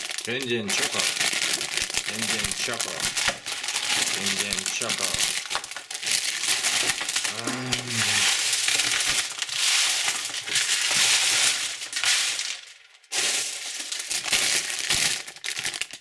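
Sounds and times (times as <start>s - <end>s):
plastic wrappers crinkling: 0.0s - 16.0s.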